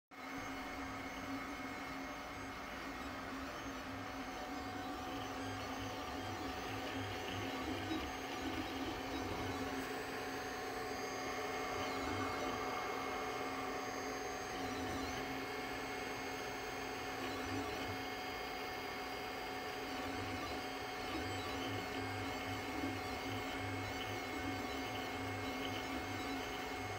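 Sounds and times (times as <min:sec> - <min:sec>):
high-pitched whines: 0:00.2 - 0:26.9
printer mechanical hum: 0:00.2 - 0:26.9.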